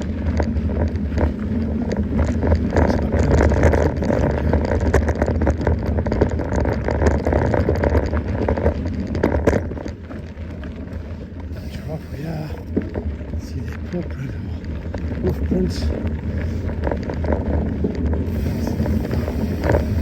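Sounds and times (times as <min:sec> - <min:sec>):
bike clicks and rattles: 0:00.0 - 0:20.0
tyres rumbling on dirt: 0:00.0 - 0:20.0.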